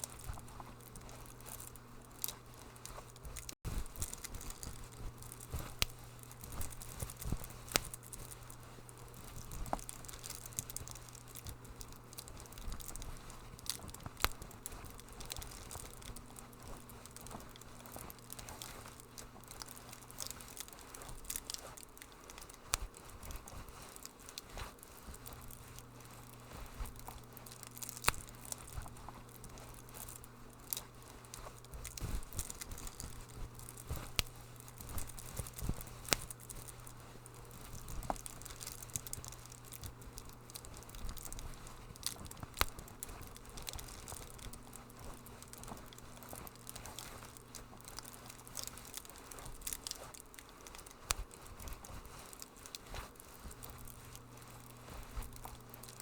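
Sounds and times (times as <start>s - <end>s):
steady low hum: 0.0s - 56.0s
wood fire crackling: 0.0s - 56.0s.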